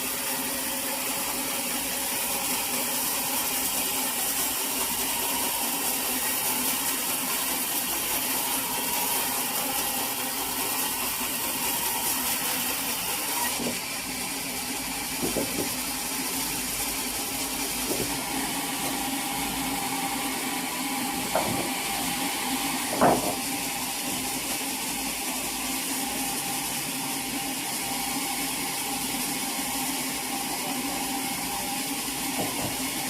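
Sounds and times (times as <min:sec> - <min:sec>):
sawmill machinery humming: 0:00.0 - 0:33.0.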